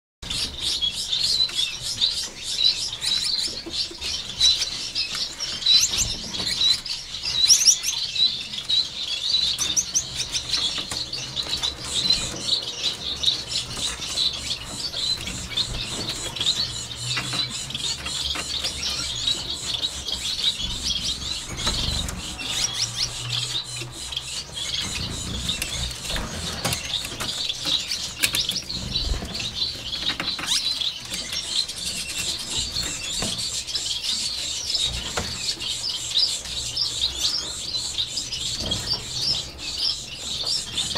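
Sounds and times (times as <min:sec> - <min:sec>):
finches chirping: 0:00.3 - 0:40.9.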